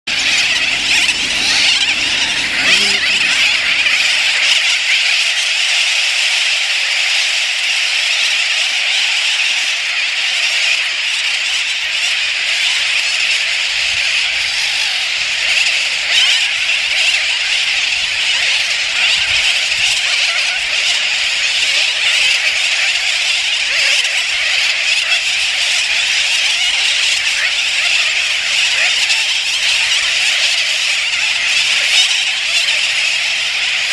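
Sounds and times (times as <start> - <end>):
seabird colony calling: 0.1 - 33.9.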